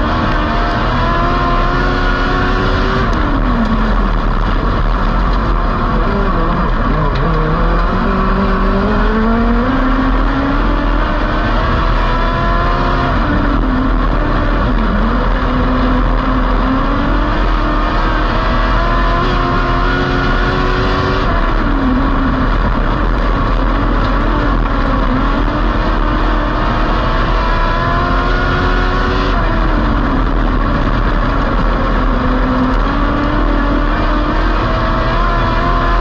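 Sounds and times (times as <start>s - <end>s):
race car engine revving: 0.0s - 36.0s
wind: 0.0s - 36.0s.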